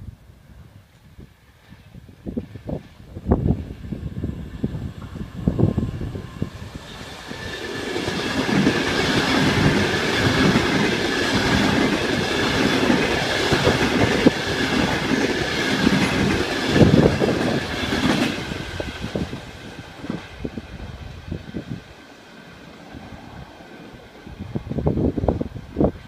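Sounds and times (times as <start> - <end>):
train passing at speed: 0.4 - 26.0.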